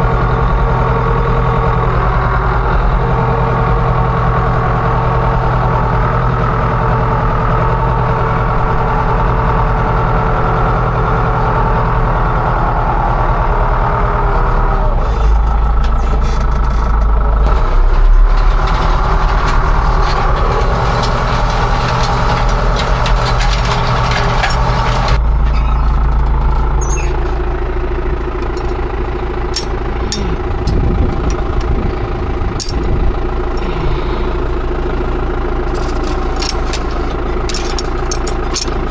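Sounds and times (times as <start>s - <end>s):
farm machine engine running: 0.0s - 38.9s.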